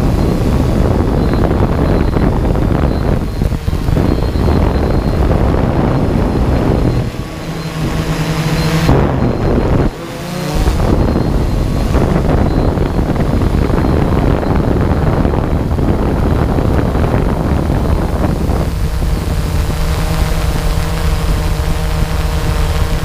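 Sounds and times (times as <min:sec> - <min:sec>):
drone motors and propellers: 0:00.0 - 0:23.0
steady pitched hum: 0:00.0 - 0:23.0
wind buffeting microphone: 0:00.0 - 0:23.0.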